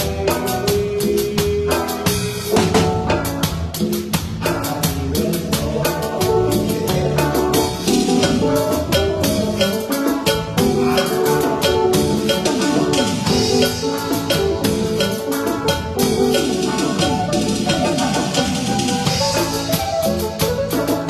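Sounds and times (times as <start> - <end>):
band music: 0.0 - 21.0
drum kit beat: 0.0 - 21.0.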